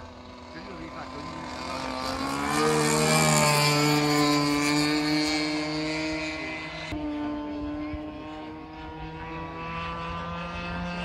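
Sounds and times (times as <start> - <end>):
model plane engine running: 0.0 - 11.0.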